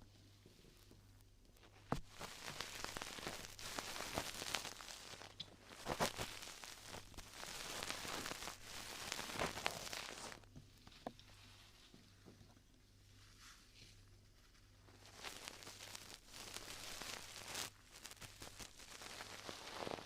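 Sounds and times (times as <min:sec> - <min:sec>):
crackling and rustling at microphone: 0:00.0 - 0:20.0.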